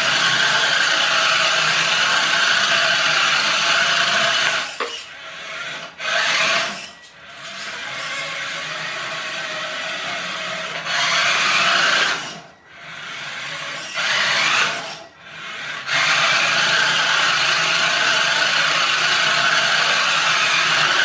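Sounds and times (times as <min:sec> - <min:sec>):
toy car motor and gears whirring: 0:00.0 - 0:21.0.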